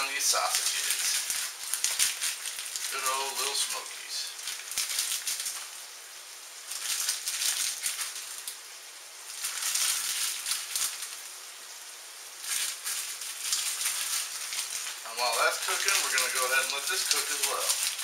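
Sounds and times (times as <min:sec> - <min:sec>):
sausages sizzling in oil: 0:00.0 - 0:18.0.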